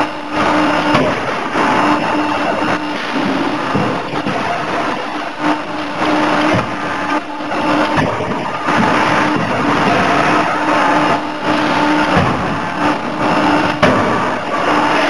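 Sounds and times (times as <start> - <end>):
forging hammer machinery noise: 0.0 - 15.0
pulsing hum: 0.0 - 15.0.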